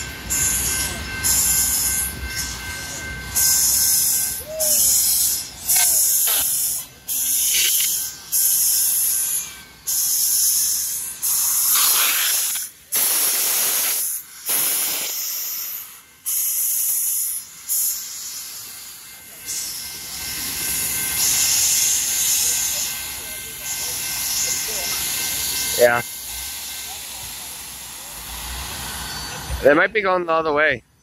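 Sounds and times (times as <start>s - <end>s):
steam locomotive hissing bursts: 0.0s - 30.7s.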